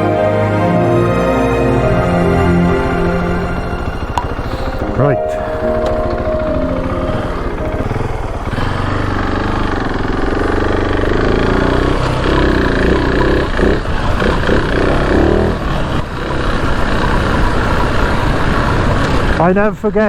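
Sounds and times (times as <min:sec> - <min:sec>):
motorcycle engine revving: 0:02.8 - 0:19.4.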